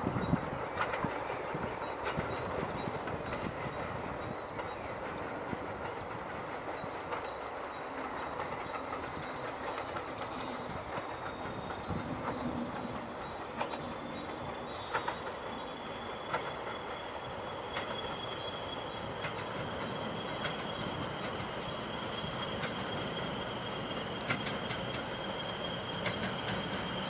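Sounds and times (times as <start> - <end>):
diesel train rumbling on rails: 0.0 - 27.0.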